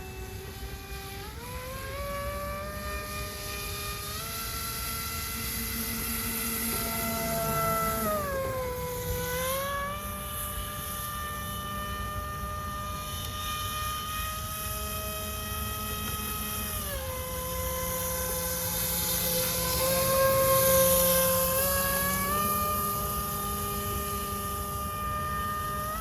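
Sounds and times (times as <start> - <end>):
propeller whine: 0.0 - 26.0.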